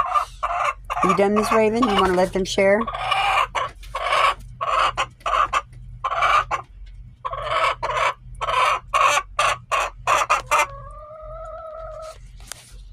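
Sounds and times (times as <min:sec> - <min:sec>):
hens clucking: 0:00.0 - 0:12.3.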